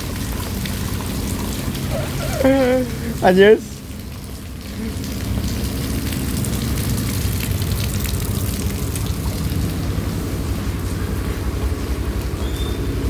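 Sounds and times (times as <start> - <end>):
rain falling: 0.0 - 13.0
vehicle engine rumbling: 0.0 - 13.0.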